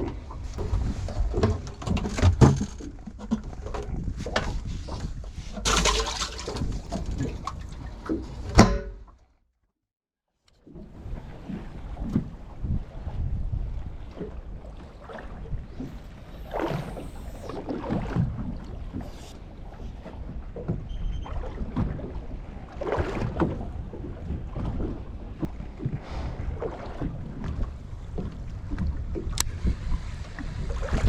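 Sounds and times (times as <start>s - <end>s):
wind buffeting microphone: 0.0s - 8.6s, 10.8s - 31.0s
water lapping against boat hull: 0.0s - 9.5s, 10.6s - 31.0s.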